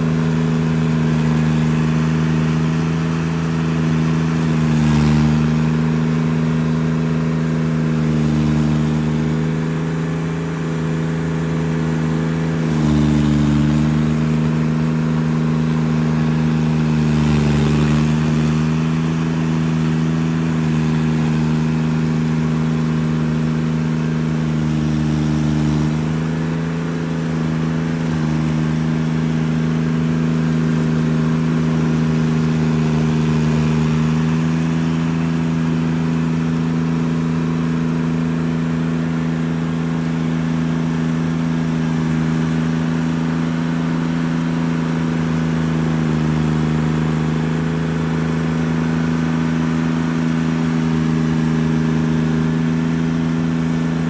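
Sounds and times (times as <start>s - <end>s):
stump grinder grinding stump: 0.0s - 54.0s.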